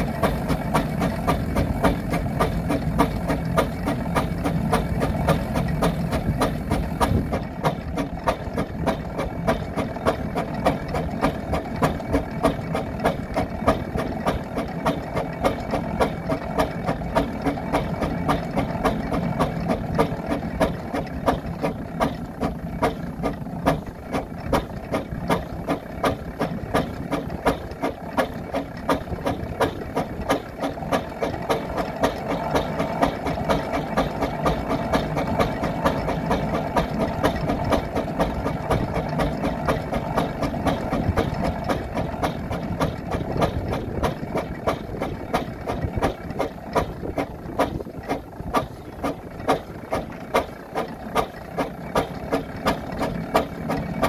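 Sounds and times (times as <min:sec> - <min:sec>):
steam engine running: 0:00.0 - 0:54.0.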